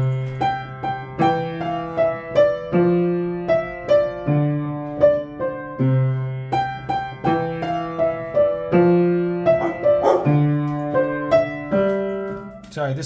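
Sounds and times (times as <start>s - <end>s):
piano melody with bass notes: 0.0s - 13.0s.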